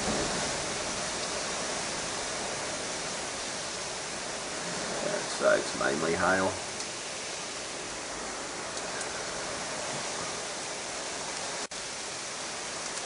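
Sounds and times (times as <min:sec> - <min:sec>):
hail falling: 0:00.0 - 0:13.0
rain: 0:00.0 - 0:13.0.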